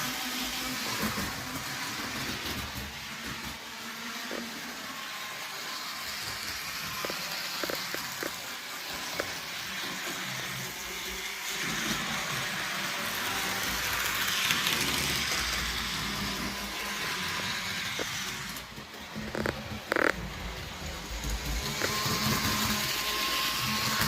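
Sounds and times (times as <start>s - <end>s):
model train whirring: 0.0s - 24.0s.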